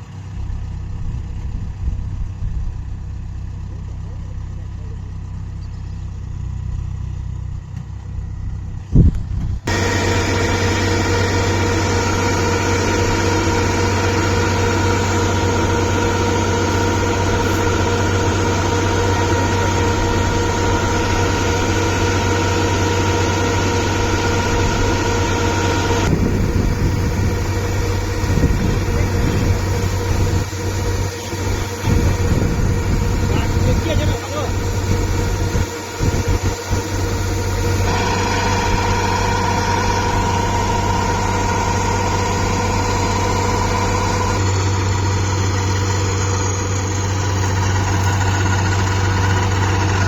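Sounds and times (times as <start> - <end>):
combine harvester engine hum: 0.0 - 50.0
loud machinery whine: 9.6 - 50.0.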